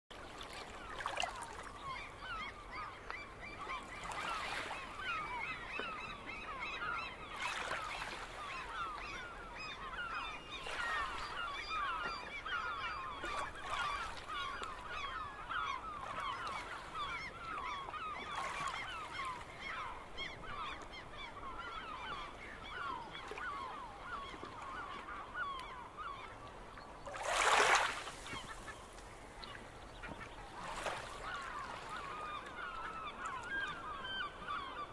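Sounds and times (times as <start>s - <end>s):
gulls calling: 0.8s - 26.4s, 27.0s - 34.9s.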